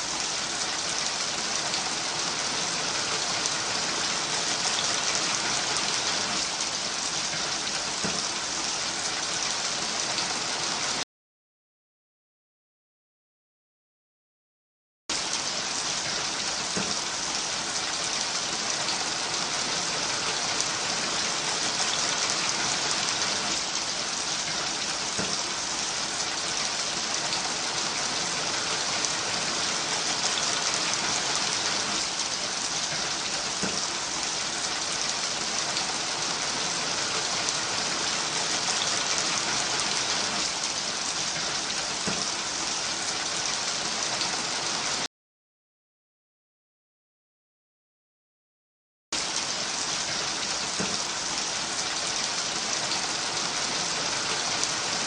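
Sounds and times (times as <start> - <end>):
steady rain falling: 0.0 - 11.0, 15.1 - 45.1, 49.2 - 55.0.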